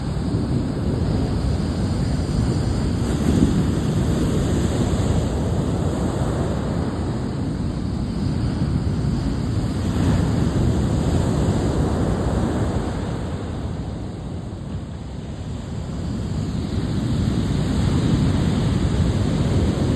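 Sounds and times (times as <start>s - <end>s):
ocean surf: 0.0s - 19.9s
wind gusting over microphone: 0.0s - 19.9s.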